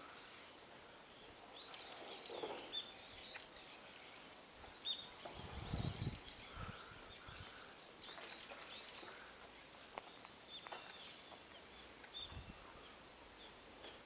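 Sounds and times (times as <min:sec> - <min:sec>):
faint outdoor ambience: 0:00.0 - 0:14.0
small birds chirping: 0:00.0 - 0:14.0.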